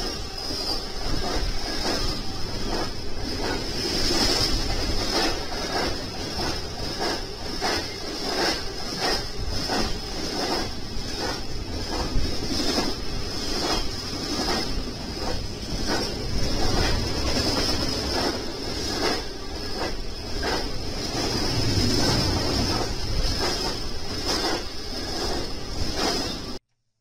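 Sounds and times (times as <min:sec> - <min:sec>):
rhythmic clicking of rail joints: 0:00.0 - 0:26.6
train wheels rumbling on rails: 0:00.0 - 0:26.6.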